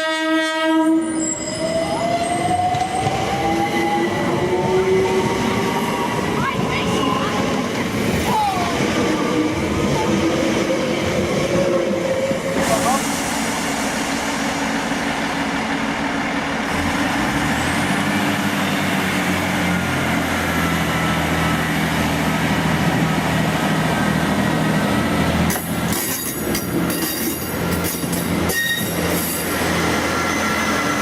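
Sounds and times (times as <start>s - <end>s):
train engine drone: 0.0s - 31.0s.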